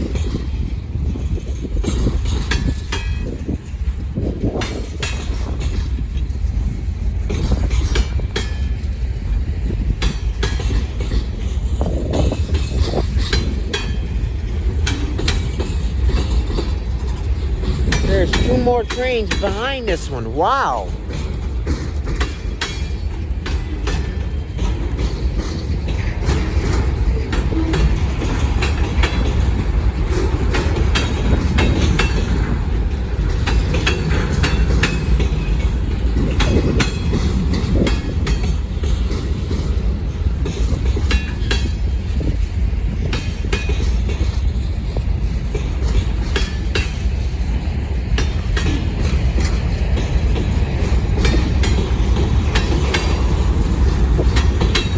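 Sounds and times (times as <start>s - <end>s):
wheels clicking over rail joints: 0.0s - 19.8s, 20.9s - 54.9s
freight train rolling past: 0.0s - 54.9s.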